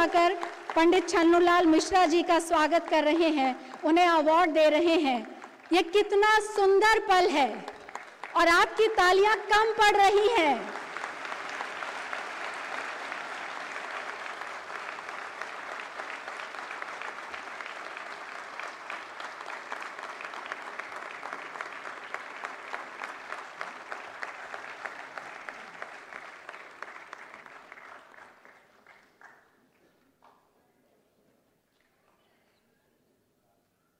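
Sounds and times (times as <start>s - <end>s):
audience applauding: 0.0s - 6.5s, 7.4s - 30.4s.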